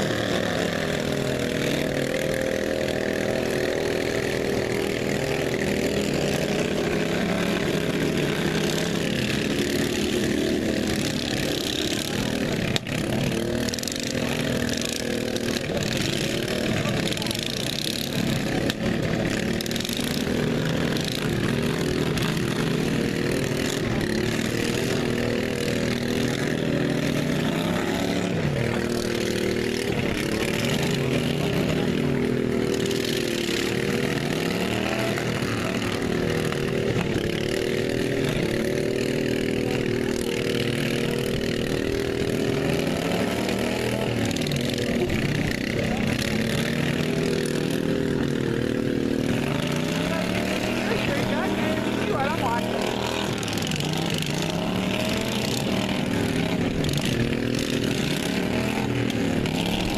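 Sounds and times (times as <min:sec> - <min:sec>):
racing lawn mower engines: 0:00.0 - 0:59.9.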